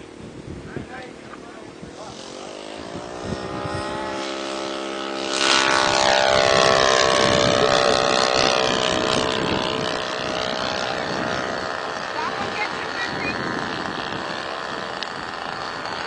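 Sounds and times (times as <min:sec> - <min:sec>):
model airplane engine passing: 0:00.0 - 0:16.0.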